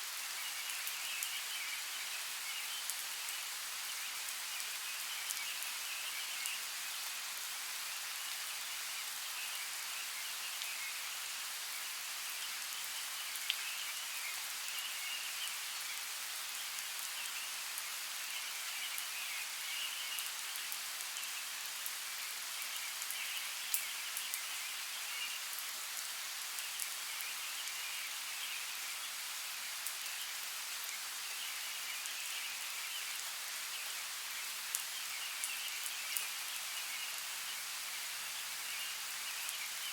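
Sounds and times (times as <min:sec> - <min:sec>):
running water hiss: 0:00.0 - 0:39.9.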